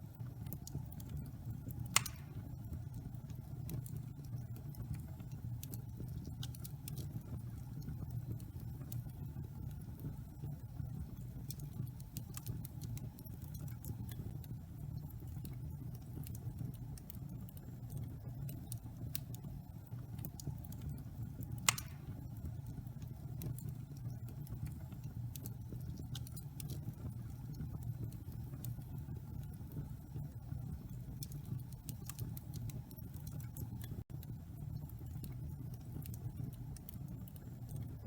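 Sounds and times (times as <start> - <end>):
fire rumbling in fireplace: 0.0 - 38.0
wood fire crackling: 0.0 - 38.0.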